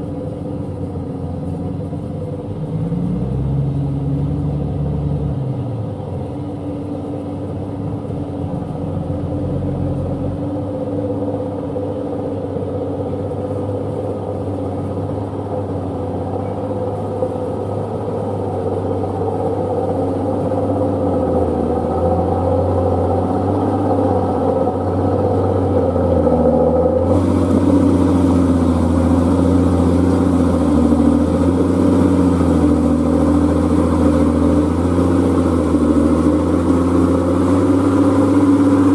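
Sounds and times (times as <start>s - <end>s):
diesel truck engine under load: 0.0s - 38.9s.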